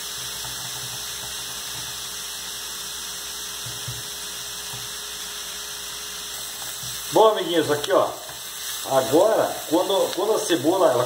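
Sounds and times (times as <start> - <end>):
onion and garlic sizzling in oil: 0.0 - 11.0.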